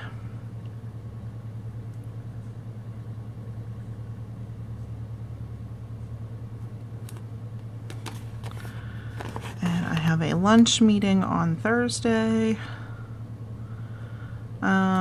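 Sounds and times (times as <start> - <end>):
low fluttering motor hum: 0.0 - 15.0.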